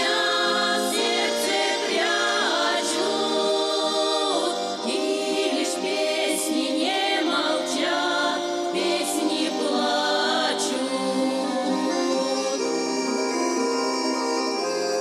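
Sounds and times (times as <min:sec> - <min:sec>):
folk choir singing: 0:00.0 - 0:15.0.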